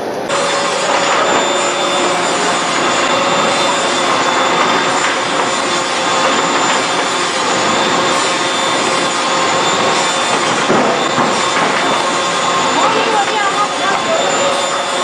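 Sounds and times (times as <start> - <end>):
faint machine whines: 0.0 - 15.0
box gluer machine running: 0.3 - 15.0.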